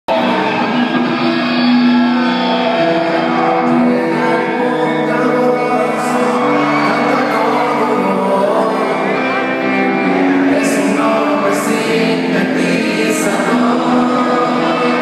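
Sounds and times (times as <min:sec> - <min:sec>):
live rock band music: 0:00.1 - 0:15.0.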